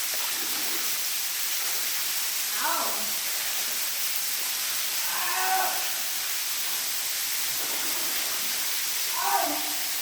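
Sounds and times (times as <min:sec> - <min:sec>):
waterfall pouring: 0:00.0 - 0:10.0.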